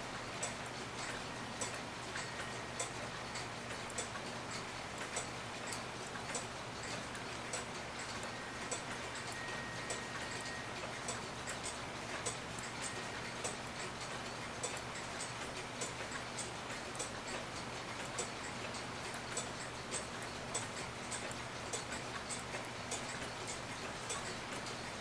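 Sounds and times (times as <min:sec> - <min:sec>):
clock ticking: 0:00.4 - 0:25.0.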